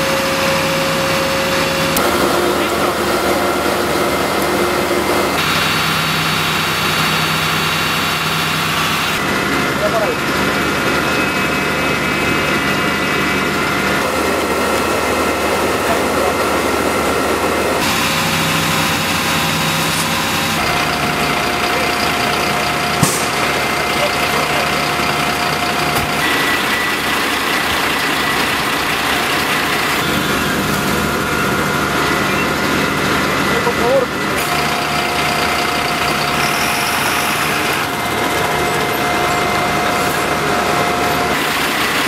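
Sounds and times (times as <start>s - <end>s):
diesel engines running loudly: 0.0s - 42.0s.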